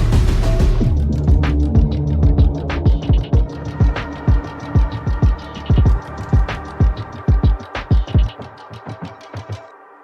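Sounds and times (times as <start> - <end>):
kick and snare beat: 0.0 - 9.5
electronic music: 0.0 - 10.0.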